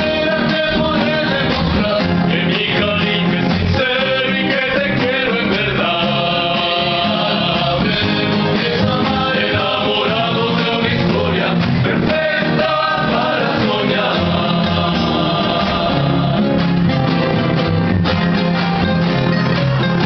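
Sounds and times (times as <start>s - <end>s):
men singing together: 0.0s - 16.8s
strummed acoustic guitars: 0.0s - 20.0s.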